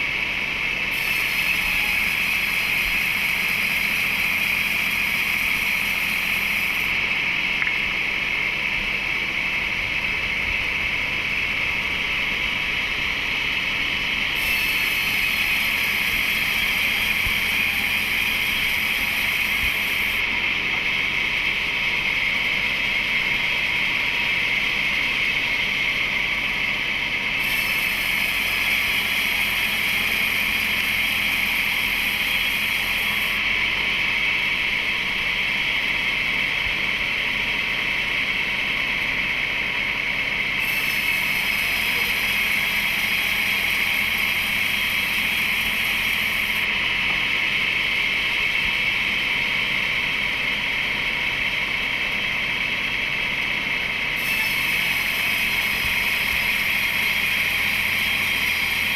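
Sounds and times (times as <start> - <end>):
wood-splitting machine droning: 0.0 - 58.9.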